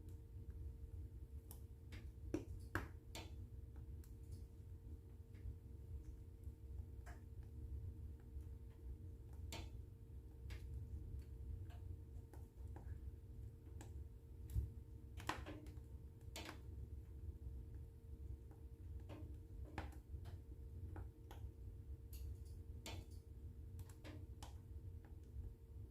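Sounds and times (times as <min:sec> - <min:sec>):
low fire rumble: 0:00.0 - 0:25.9.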